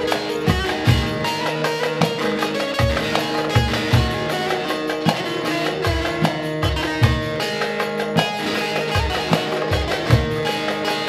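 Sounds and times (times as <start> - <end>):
electric saz strummed folk melody: 0.0 - 11.0.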